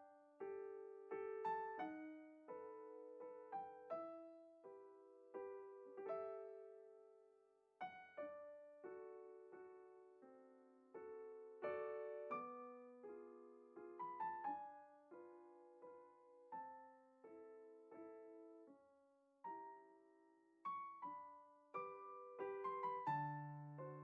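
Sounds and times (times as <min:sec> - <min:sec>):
quiet solo piano: 0:00.0 - 0:24.0.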